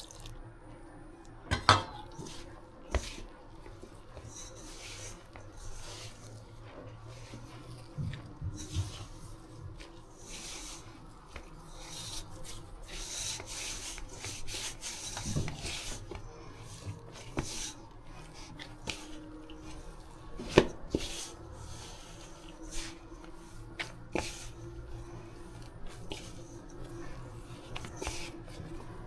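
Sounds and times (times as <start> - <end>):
dough being kneaded: 1.5 - 29.0.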